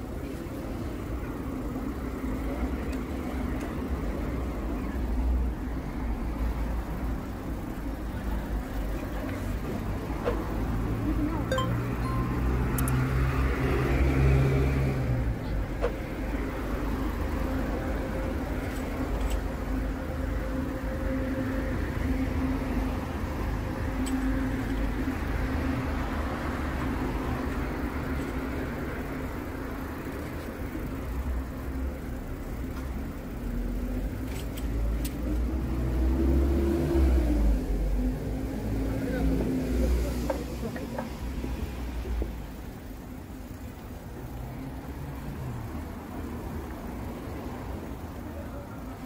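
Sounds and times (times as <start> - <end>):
cars driving past: 1.4 - 49.0.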